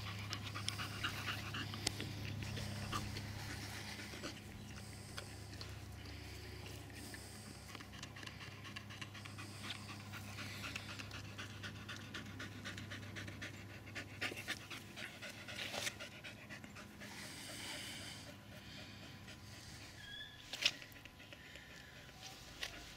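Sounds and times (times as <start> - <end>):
dog panting hard: 0.0 - 20.0.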